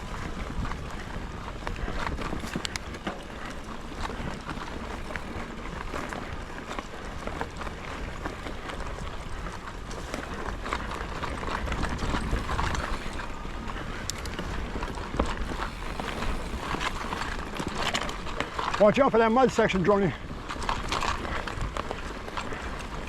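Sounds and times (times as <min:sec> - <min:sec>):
bike rattling: 0:00.0 - 0:23.0
bike tyres crunching on dirt: 0:00.0 - 0:23.0
low wind rumble: 0:00.0 - 0:23.0.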